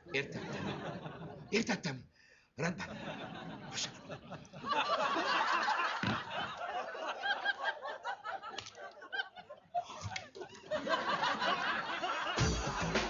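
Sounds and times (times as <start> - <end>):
audience laughing: 0.0 - 1.6, 2.6 - 13.0.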